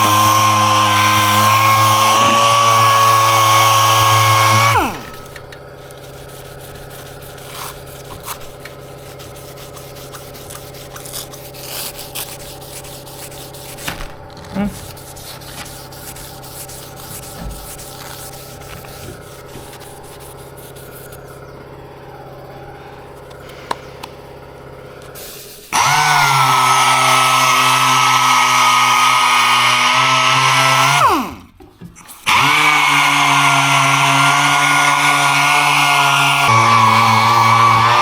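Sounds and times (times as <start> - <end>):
power tool whining: 0.0 - 38.0.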